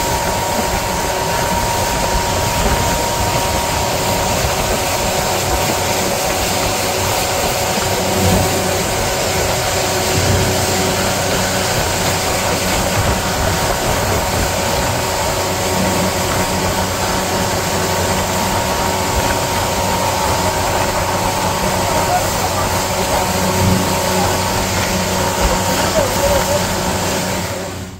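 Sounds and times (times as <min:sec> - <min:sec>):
boat engine humming: 0:00.0 - 0:27.9
wind and water rushing: 0:00.0 - 0:27.9.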